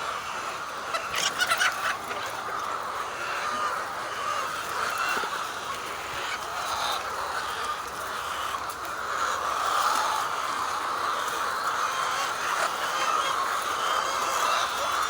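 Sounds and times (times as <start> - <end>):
poultry calling: 0.0 - 15.0.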